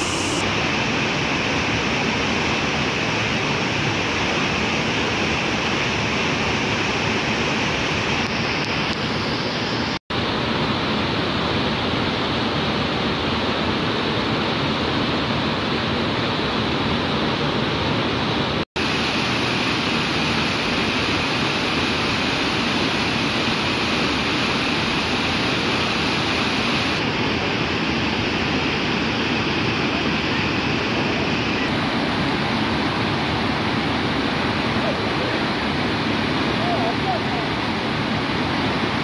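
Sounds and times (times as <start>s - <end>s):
whitewater rushing down waterfall: 0.0s - 39.0s.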